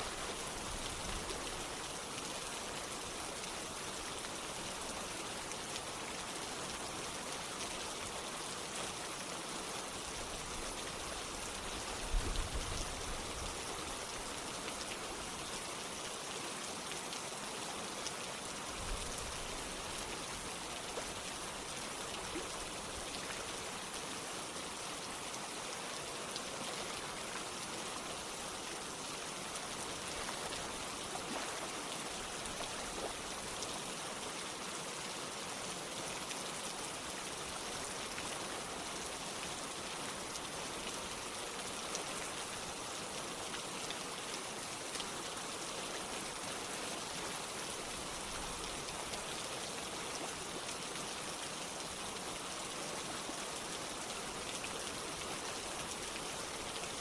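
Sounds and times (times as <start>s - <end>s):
flowing water: 0.0s - 57.0s
steady rain: 0.0s - 57.0s.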